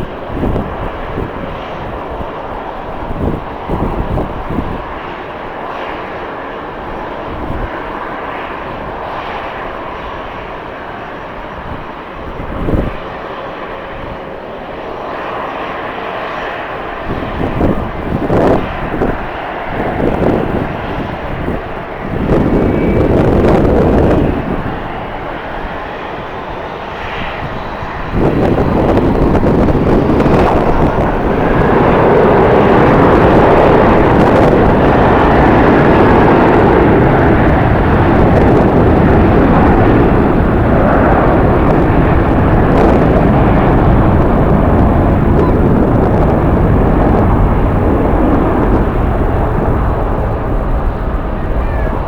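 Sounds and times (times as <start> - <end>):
jet engines roaring: 0.0 - 52.0
wind on microphone: 0.0 - 52.0.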